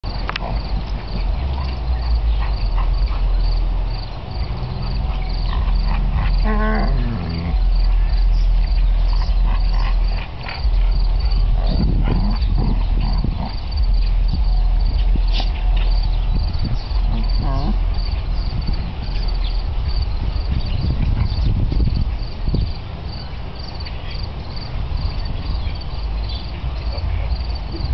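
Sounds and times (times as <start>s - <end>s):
insects chirping: 0.0s - 27.9s
low rumble: 0.0s - 27.9s.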